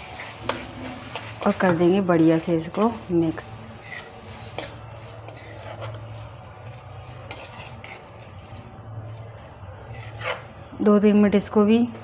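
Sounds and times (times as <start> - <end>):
spatula scraping metal pan: 0.0 - 10.6
low sizzle: 0.0 - 11.9.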